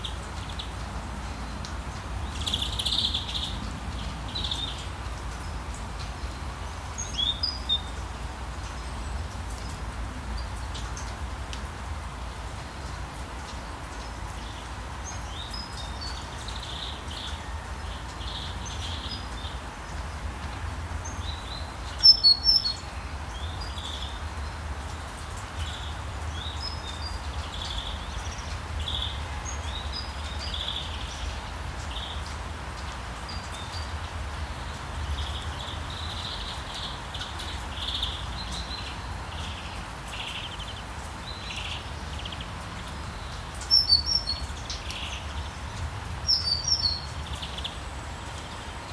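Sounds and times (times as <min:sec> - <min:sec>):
small birds chirping: 0:00.0 - 0:09.8, 0:13.7 - 0:20.1, 0:21.0 - 0:48.9.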